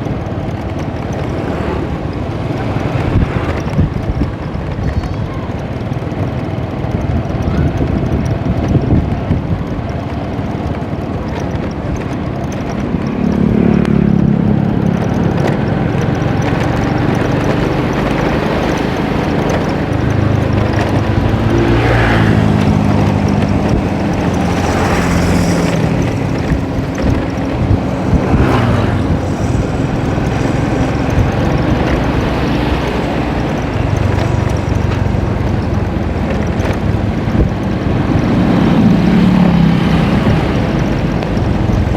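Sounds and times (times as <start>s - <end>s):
loud engine running: 0.0s - 41.9s.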